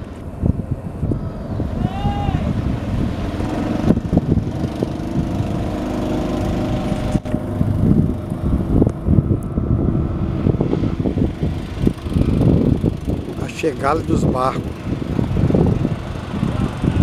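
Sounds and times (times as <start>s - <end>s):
boat diesel engine running: 0.0s - 17.0s
wind buffeting microphone: 0.0s - 17.0s.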